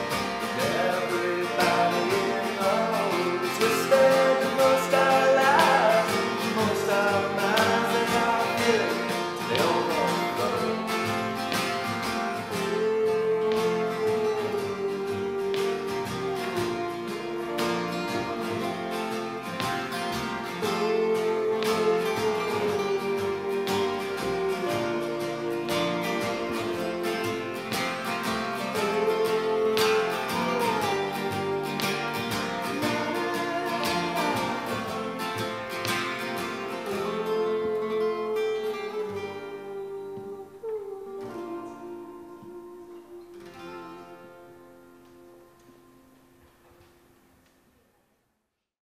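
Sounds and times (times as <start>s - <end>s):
man singing: 0.0s - 44.4s
acoustic guitars strummed: 0.0s - 47.2s.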